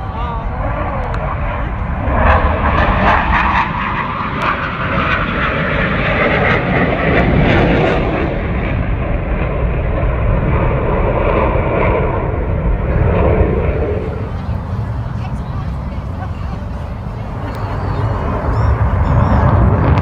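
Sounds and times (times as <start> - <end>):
loud aircraft engine rumble: 0.0 - 20.0.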